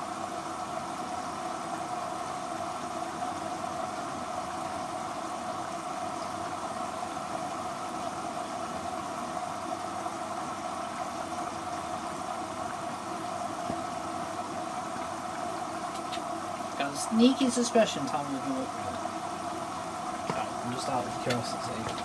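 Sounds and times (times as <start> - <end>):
washer-dryer running: 0.0 - 22.0.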